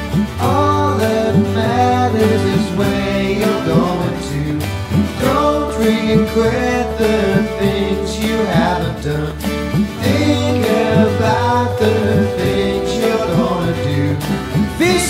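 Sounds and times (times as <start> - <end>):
strummed acoustic guitar: 0.0 - 15.0
man singing: 0.4 - 15.0.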